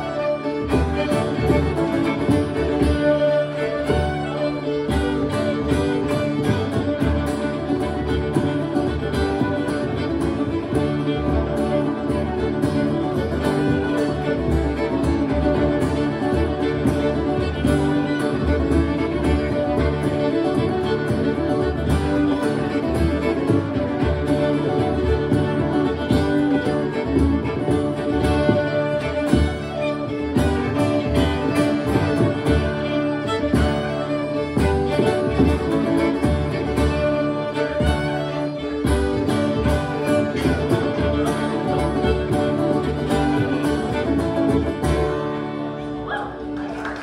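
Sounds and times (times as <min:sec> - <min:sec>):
fiddles playing a lively reel: 0:00.0 - 0:47.0
guitar accompaniment: 0:00.0 - 0:47.0.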